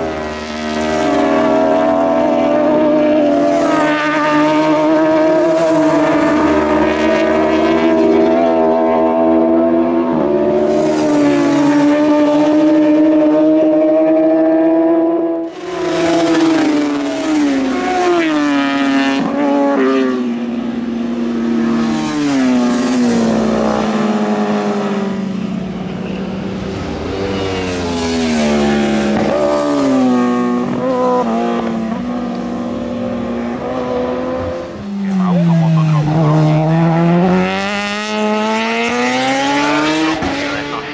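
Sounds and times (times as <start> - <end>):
racing motorcycles revving: 0.0 - 40.9.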